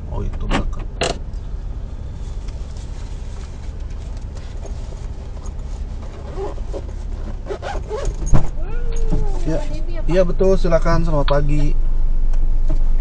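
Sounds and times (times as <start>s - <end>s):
car engine idling inside cabin: 0.0s - 13.0s.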